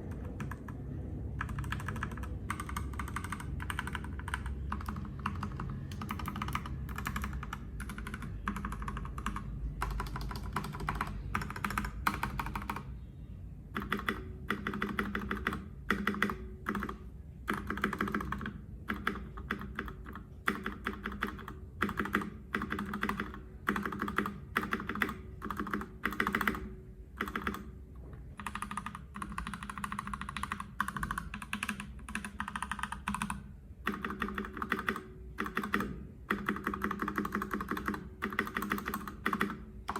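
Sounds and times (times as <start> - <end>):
mechanical keyboard typing: 0.0 - 12.9, 13.7 - 39.9.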